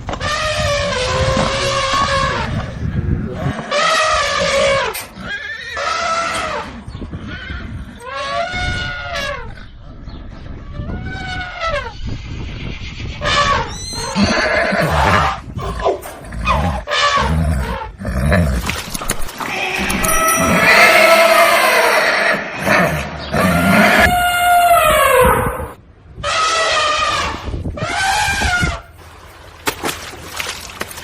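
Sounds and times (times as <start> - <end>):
horses neighing: 0.2 - 9.8, 13.2 - 28.9.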